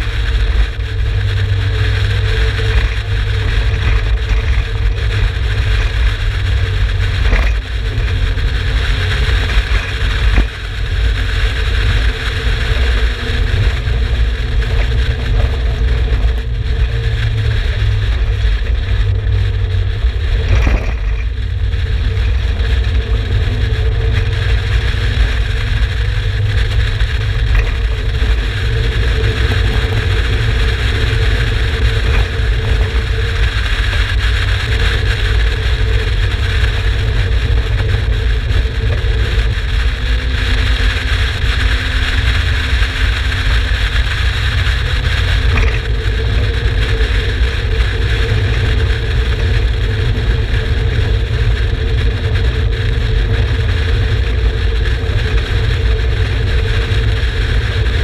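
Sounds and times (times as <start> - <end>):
car engine running steadily: 0.0 - 58.0
heavy low rumble: 0.0 - 58.0.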